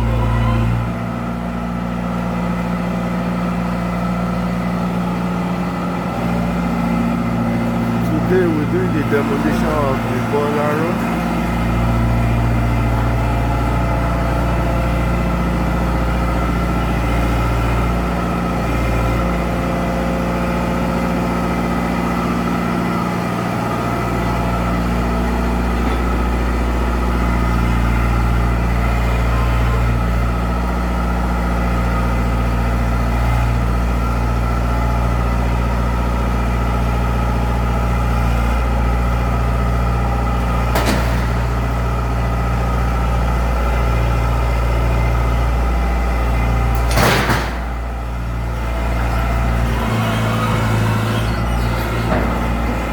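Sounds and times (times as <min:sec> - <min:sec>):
engine running steadily: 0:00.0 - 0:52.9.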